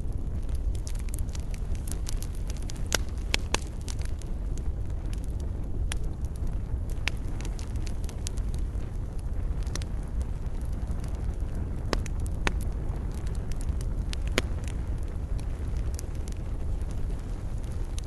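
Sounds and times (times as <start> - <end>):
campfire crackles and pops: 0.0 - 18.0
low rumble of flame: 0.0 - 18.0.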